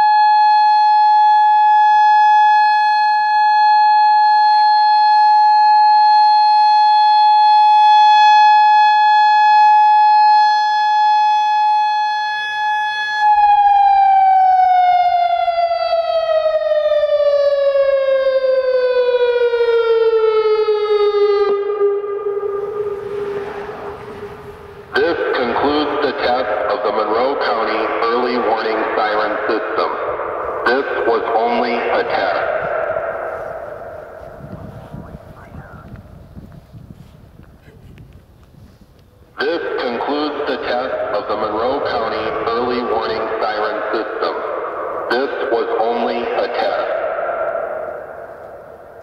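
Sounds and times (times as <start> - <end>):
warning siren winding down: 0.0 - 36.2, 39.4 - 49.0.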